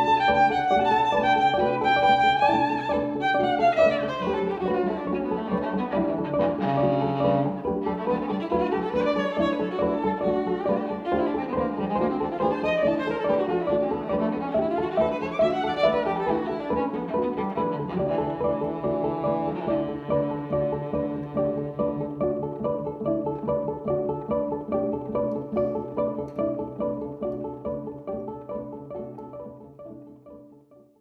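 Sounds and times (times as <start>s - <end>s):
scratchy bow stroke: 0.0s - 27.3s
bowed viola notes: 0.0s - 30.3s.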